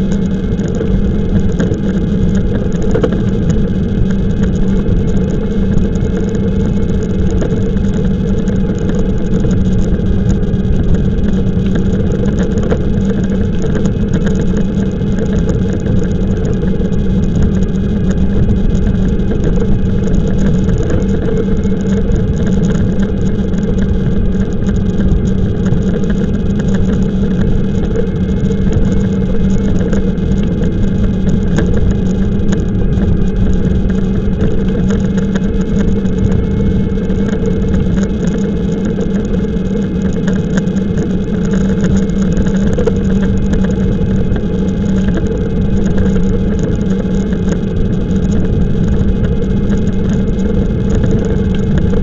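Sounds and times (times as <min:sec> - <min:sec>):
steady low hum: 0:00.0 - 0:52.0
wind rumbling on microphone: 0:00.0 - 0:52.0.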